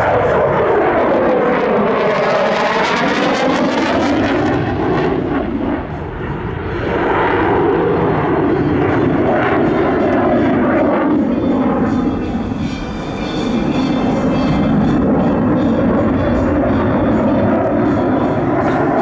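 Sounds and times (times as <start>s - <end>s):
fighter jet roaring past: 0.0s - 19.0s.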